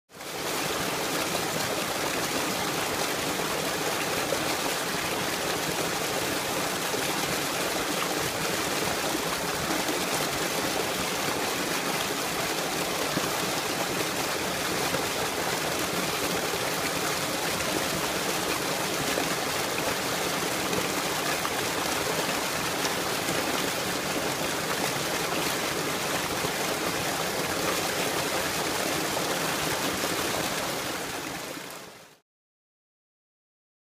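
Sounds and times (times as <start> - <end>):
water gushing into pond: 0.2 - 32.2.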